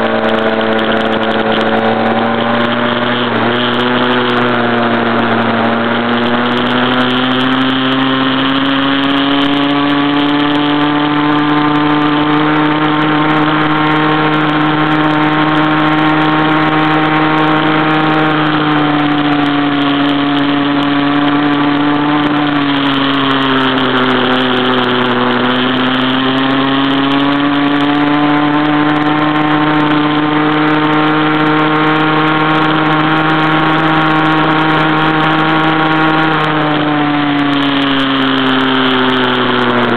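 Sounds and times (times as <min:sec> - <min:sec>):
small two-stroke engine at high revs: 0:00.0 - 0:39.9.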